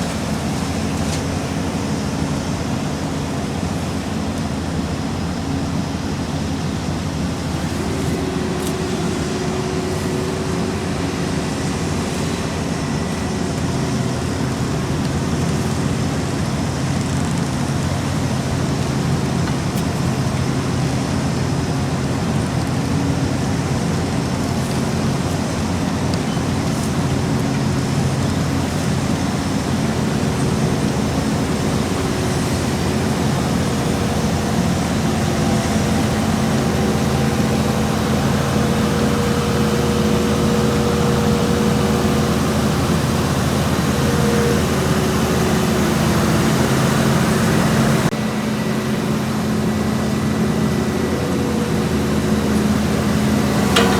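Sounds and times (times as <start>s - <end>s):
diesel machinery engines running: 0.0s - 53.9s
higher steady engine tone: 0.0s - 53.9s.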